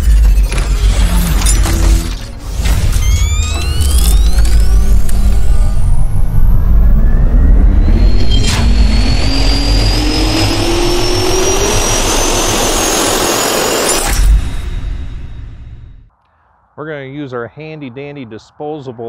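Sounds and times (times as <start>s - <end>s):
jet turbine spooling up: 0.5s - 16.0s.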